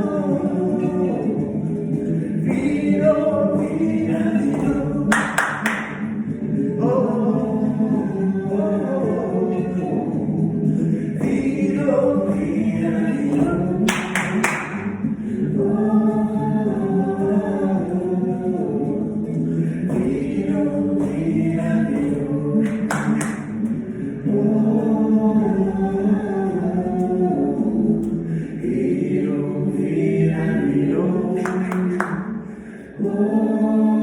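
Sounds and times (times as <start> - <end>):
group singing in harmony: 0.0 - 34.0.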